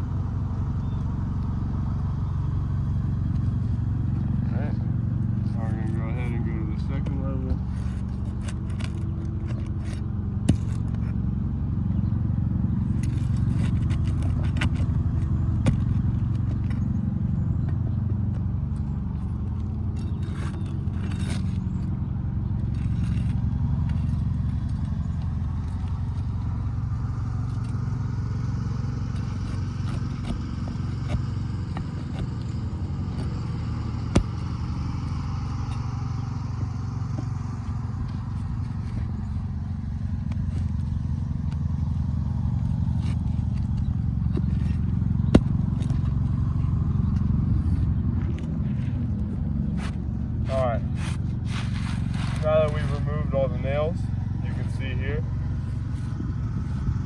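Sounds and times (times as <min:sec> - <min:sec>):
motor running: 0:00.0 - 0:57.0.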